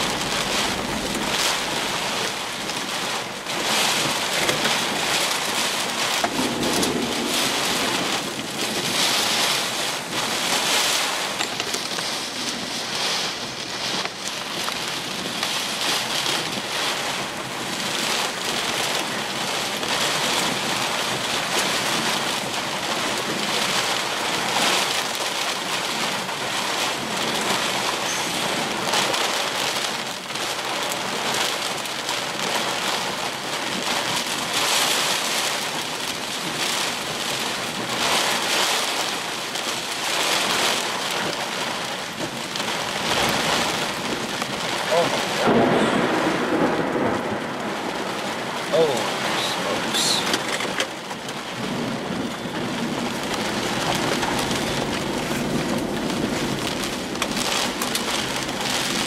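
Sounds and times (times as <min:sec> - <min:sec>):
heavy rain on car windshield: 0:00.0 - 0:59.0.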